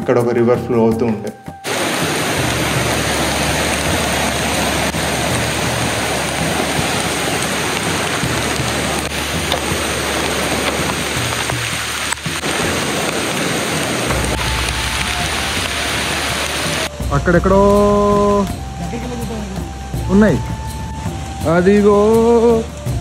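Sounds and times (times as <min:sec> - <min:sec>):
heavy rain: 0:01.6 - 0:23.0
rushing river: 0:01.6 - 0:23.0.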